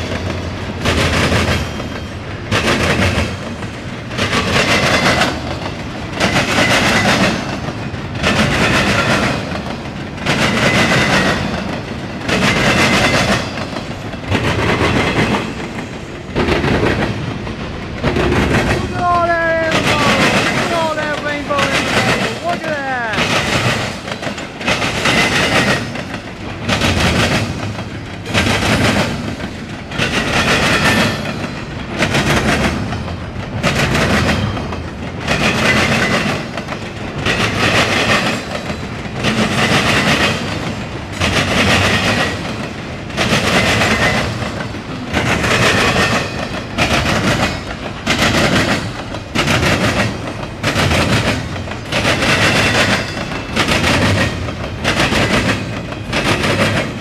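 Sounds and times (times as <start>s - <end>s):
freight train rumble: 0.0s - 57.0s
train wheels clacking over rail joints: 0.0s - 57.0s.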